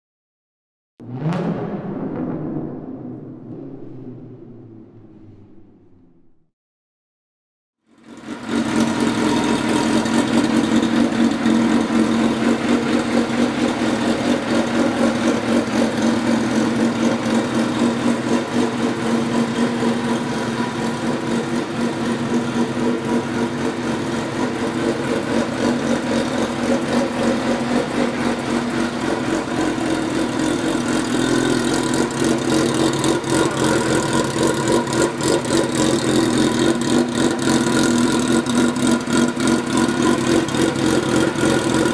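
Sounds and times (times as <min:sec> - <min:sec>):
motorcycle engine idling: 0:08.0 - 0:41.9.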